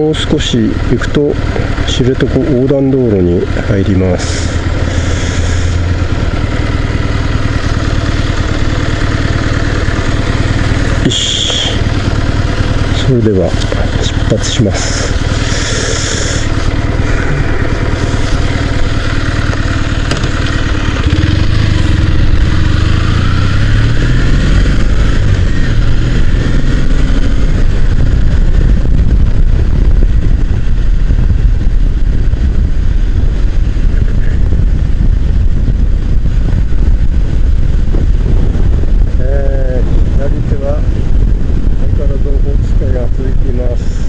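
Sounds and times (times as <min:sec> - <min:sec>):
motorcycle accelerating: 0:00.0 - 0:44.0
road and wind noise: 0:00.0 - 0:44.0.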